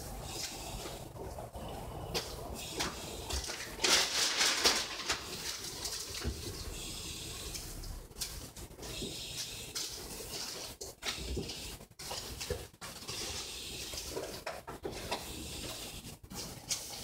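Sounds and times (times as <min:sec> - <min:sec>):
paper envelopes rustling: 0:02.2 - 0:17.0.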